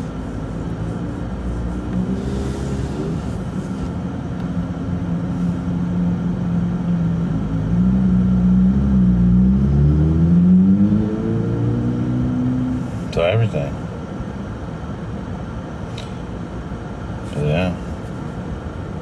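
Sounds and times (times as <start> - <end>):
car engine running while driving: 0.0 - 19.0.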